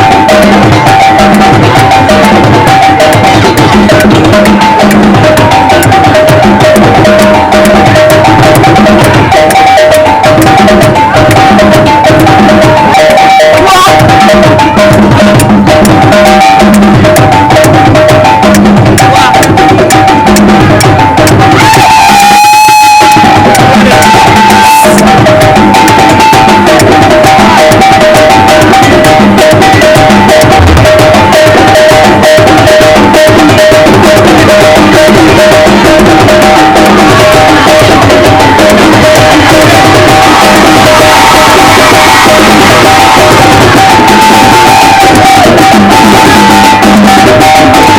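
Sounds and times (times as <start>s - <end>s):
fast loud drumming: 0.0s - 47.9s
high repeating tones: 0.0s - 47.9s.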